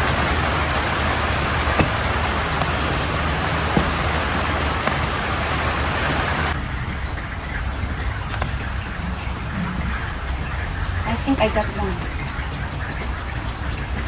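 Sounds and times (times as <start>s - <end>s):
rain hissing: 0.0s - 14.0s
raindrops tapping: 0.0s - 14.0s.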